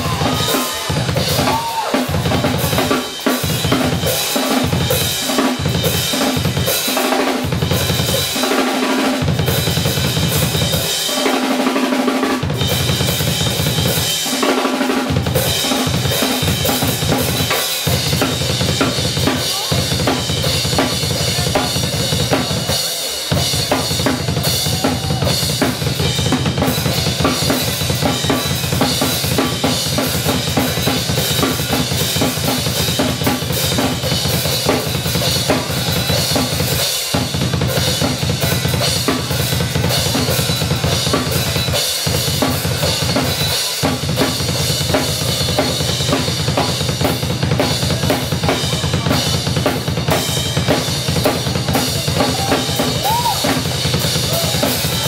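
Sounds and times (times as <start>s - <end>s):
drum kit solo: 0.0s - 55.0s.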